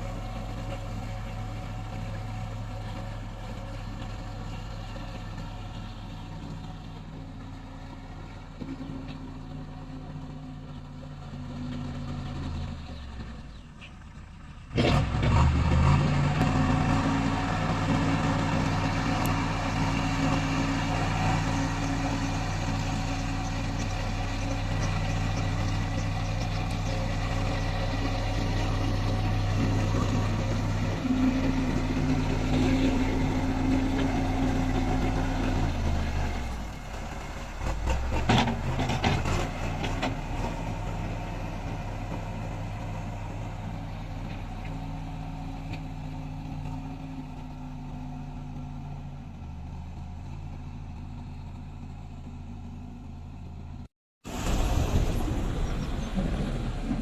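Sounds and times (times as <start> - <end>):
heavy machine diesel engine running: 0.0 - 57.0.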